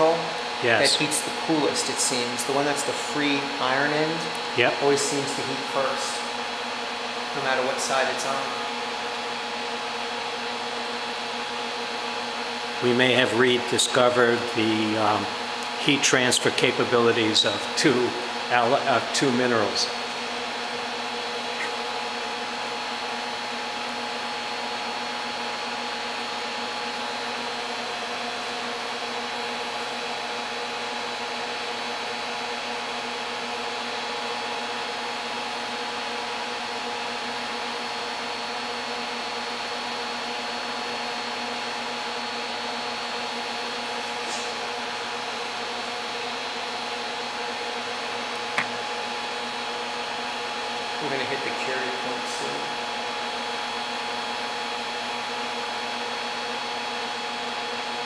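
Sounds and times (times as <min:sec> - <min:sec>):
induction heater humming: 0:00.0 - 0:58.0.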